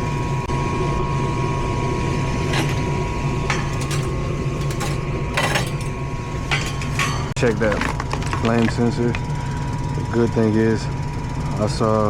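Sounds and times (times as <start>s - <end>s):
gas furnace humming: 0.0s - 12.0s
thin whine: 0.0s - 12.0s.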